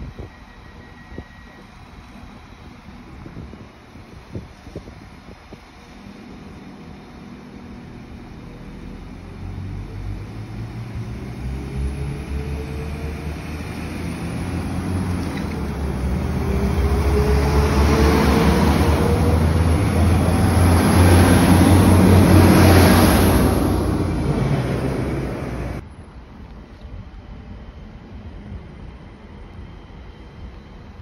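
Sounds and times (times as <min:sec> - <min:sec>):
train engine drone: 0:00.0 - 0:31.0.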